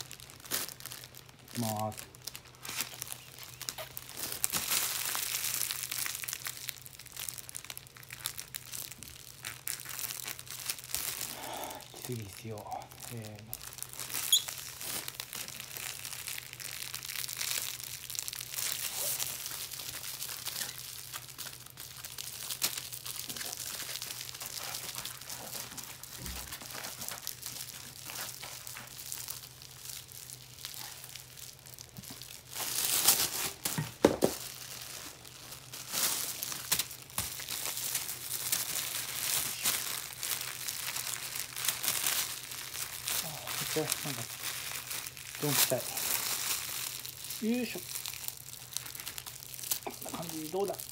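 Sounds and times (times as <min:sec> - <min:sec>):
plastic bag and paper crinkling: 0:00.0 - 0:50.9.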